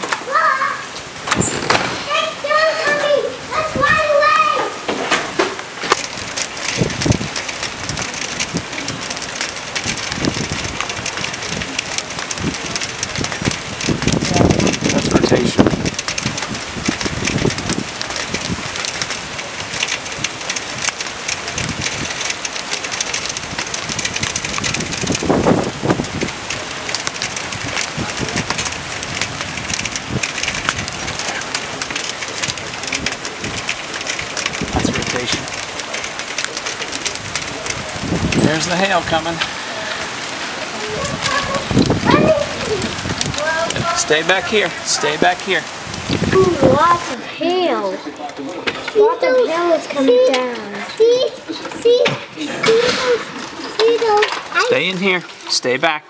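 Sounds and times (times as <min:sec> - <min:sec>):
rain on hard surfaces: 0:00.0 - 0:56.0
raindrop ticks: 0:02.1 - 0:56.0.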